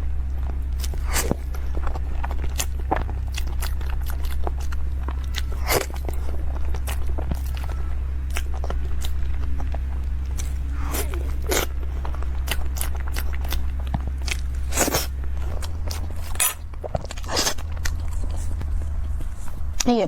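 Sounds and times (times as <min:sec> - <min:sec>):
chewing crispy food: 0:00.0 - 0:20.0
steady low hum: 0:00.0 - 0:20.0.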